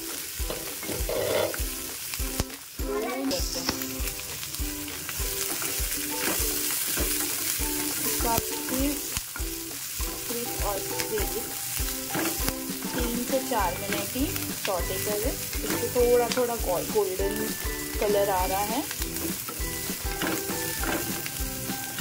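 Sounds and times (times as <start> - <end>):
background music with steady beat: 0.0 - 22.0
vegetables sizzling in a pan: 0.0 - 22.0.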